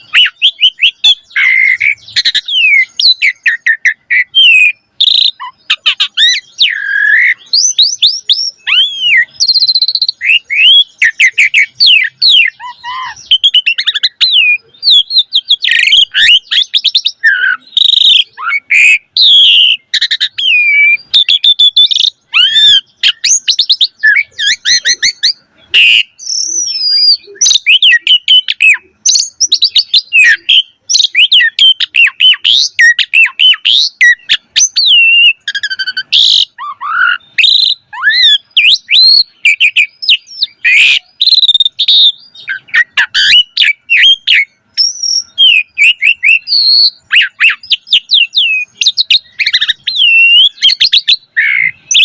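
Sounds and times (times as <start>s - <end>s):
starling singing: 0.0s - 52.0s.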